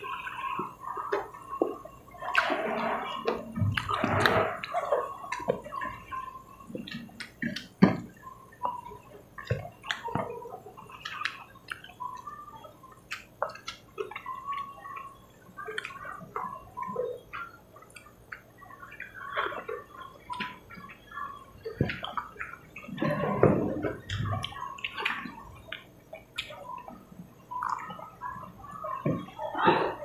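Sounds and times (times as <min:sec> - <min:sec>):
people chewing with smacking noises: 0:00.0 - 0:30.0.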